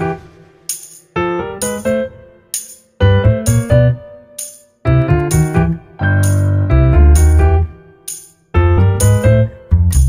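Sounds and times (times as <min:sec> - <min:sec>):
keyboard notes stepping upward: 0:00.0 - 0:10.0.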